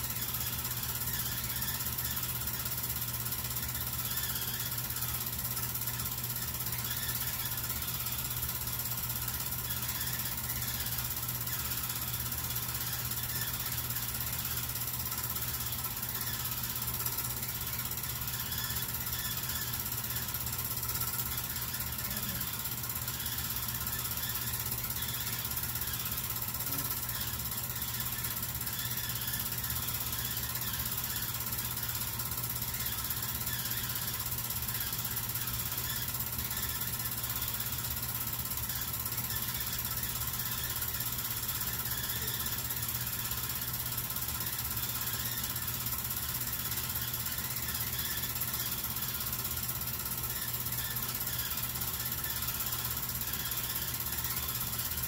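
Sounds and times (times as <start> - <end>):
constant low hum: 0.0 - 55.0
film projector clatter: 0.0 - 55.0.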